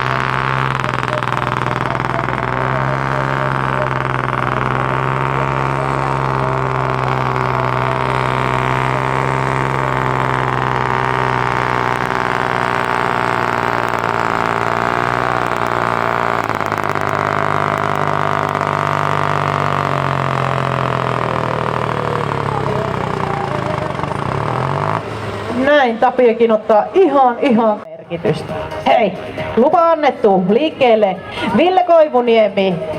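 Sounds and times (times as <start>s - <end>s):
tractor diesel engine at full throttle: 0.0s - 32.9s.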